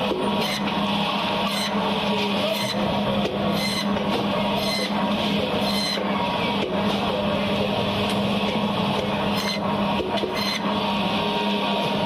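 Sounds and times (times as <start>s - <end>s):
band saw humming: 0.0s - 12.0s.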